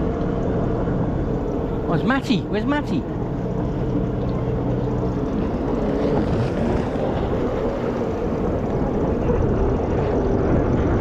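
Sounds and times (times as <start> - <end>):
watercraft engines droning: 0.0 - 11.0.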